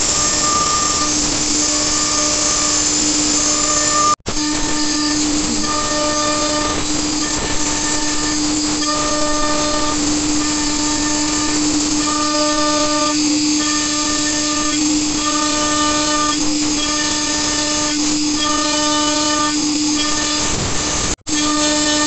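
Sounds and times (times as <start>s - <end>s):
bit cutting wood: 0.0s - 22.0s
router spindle whine: 0.0s - 22.0s.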